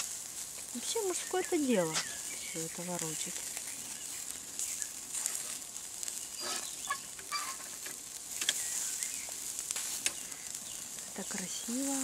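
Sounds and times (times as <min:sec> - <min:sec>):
meat sizzling on charcoal grill: 0:00.0 - 0:12.0.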